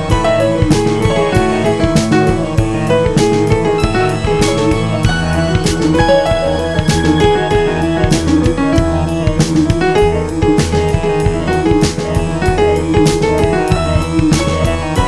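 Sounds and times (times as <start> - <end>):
steady drum beat: 0.0 - 15.0
upbeat piano instrumental: 0.0 - 15.0.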